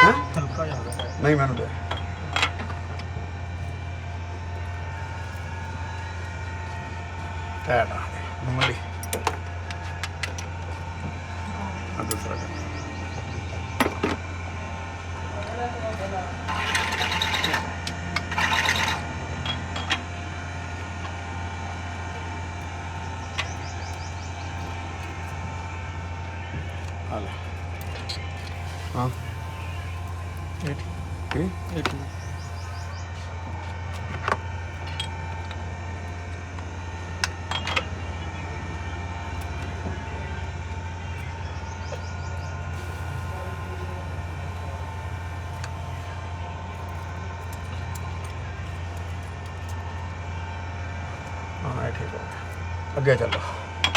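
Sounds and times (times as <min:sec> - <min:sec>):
faint even whine: 0:00.0 - 0:09.1, 0:18.6 - 0:52.9
car engine idling: 0:00.0 - 0:53.9
low mechanical hum: 0:00.0 - 0:53.9.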